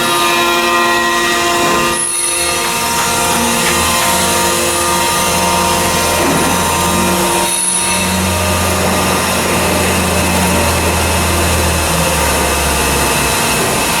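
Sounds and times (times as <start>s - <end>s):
surface grinder running: 0.0s - 14.0s.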